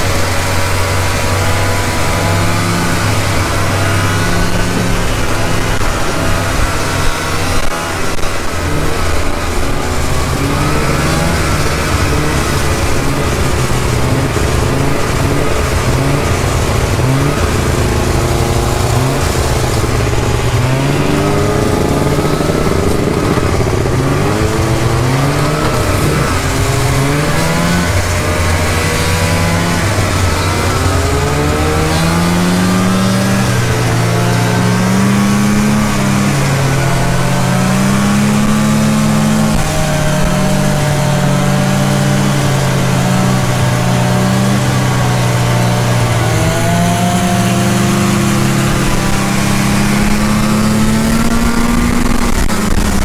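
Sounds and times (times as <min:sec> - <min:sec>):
rushing noise: 0:00.0 - 0:53.0
snowmobile engine revving: 0:00.0 - 0:53.0.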